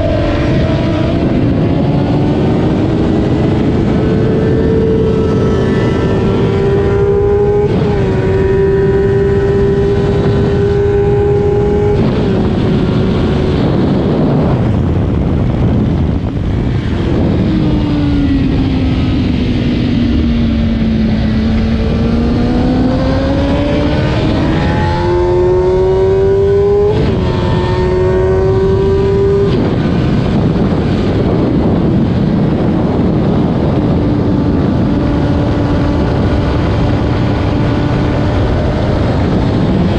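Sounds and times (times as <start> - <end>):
motorcycle engine at full throttle: 0.0 - 39.9
wind rush on microphone: 0.0 - 39.9.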